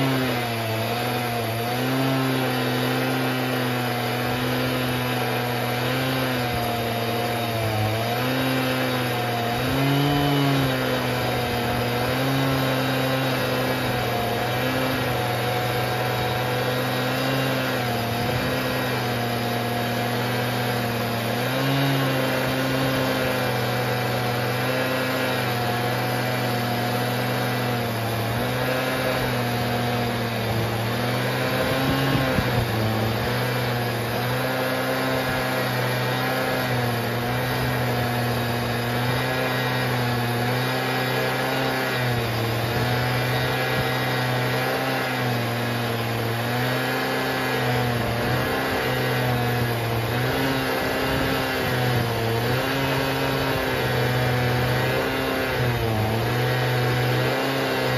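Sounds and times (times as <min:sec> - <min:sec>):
chainsaw cutting log: 0:00.0 - 0:57.9.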